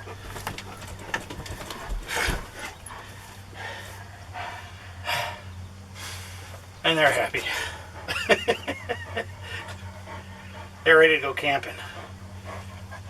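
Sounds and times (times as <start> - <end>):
dogs huffing: 0.0 - 13.0
steady low hum: 0.0 - 13.0.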